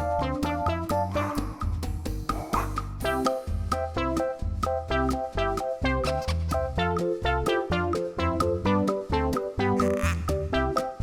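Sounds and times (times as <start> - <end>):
upbeat children's synthesizer music: 0.0 - 11.0.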